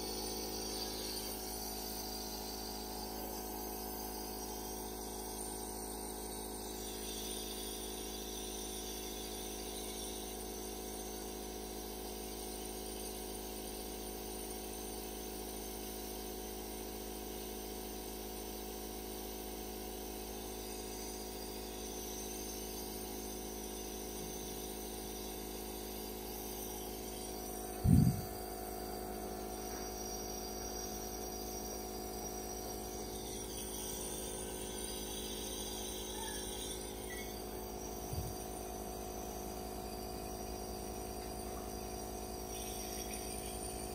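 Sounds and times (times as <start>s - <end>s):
air compressor humming: 0.0s - 16.0s, 16.6s - 43.9s.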